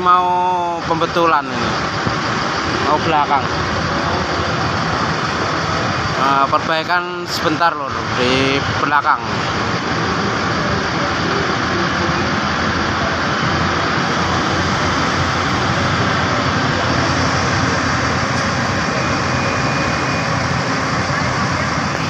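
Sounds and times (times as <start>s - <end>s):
diesel bus engine drone: 0.0s - 22.0s.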